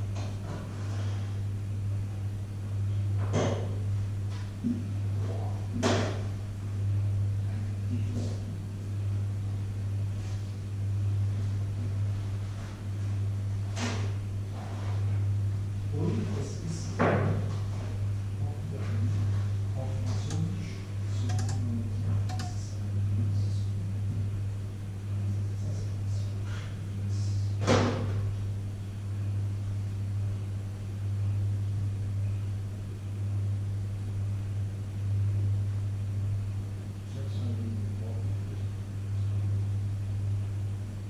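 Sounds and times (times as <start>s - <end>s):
microwave oven humming: 0.0s - 41.0s.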